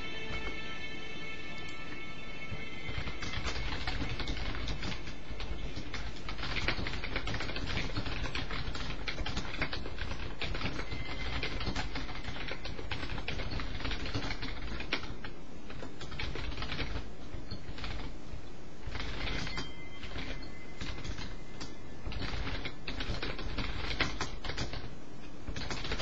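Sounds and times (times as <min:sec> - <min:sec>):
steady low hiss: 0:00.0 - 0:26.0
rapid irregular clicking: 0:02.8 - 0:24.9, 0:25.5 - 0:26.0.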